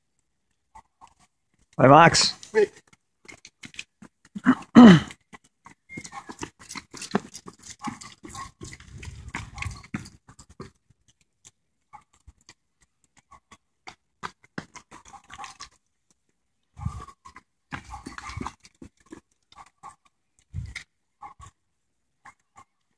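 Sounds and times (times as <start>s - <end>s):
running footsteps on brick path: 0.5s - 21.0s.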